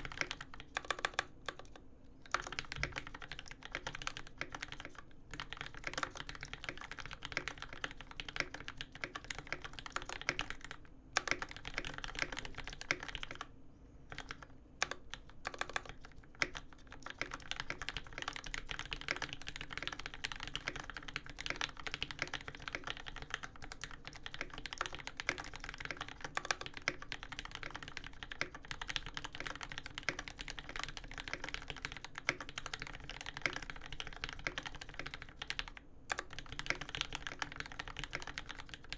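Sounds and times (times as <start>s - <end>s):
fast mechanical keyboard typing: 0.0s - 13.5s, 14.1s - 38.9s.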